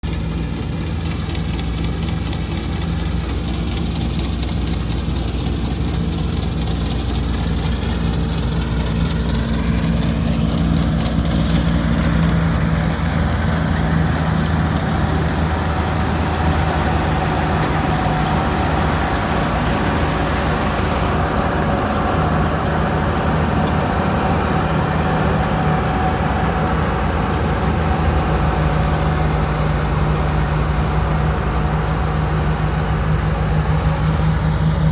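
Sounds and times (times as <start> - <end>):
harvester engine running: 0.0 - 34.9.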